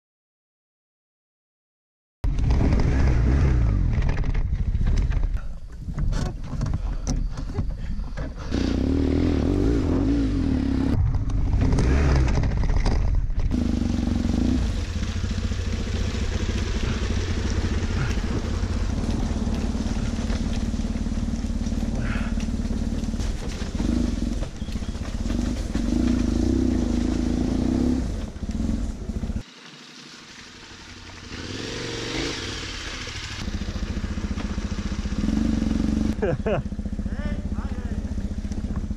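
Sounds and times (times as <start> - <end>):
motorcycle engine revving: 2.3 - 5.5, 8.4 - 38.9.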